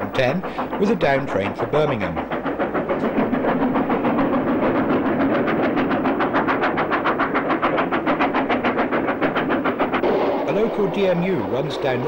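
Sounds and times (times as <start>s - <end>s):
steam locomotive exhaust beating: 0.0s - 12.0s.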